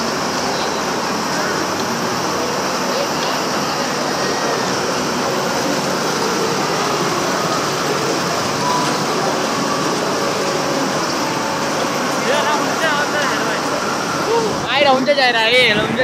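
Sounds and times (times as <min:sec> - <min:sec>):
fairground ride rushing noise: 0:00.0 - 0:16.0.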